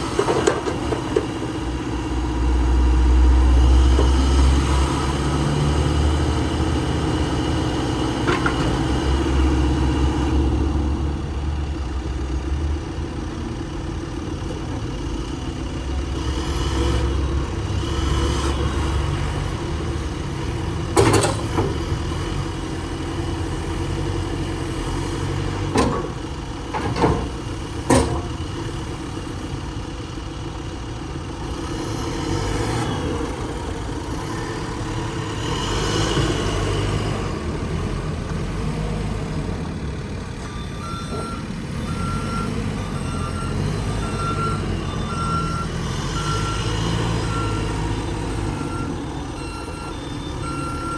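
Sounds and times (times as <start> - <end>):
backhoe diesel engine rumbling: 0.0 - 50.9.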